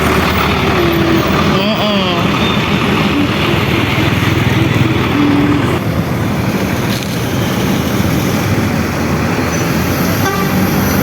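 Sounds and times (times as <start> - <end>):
large engine low rumble: 0.0 - 11.0
traffic noise: 0.0 - 11.0.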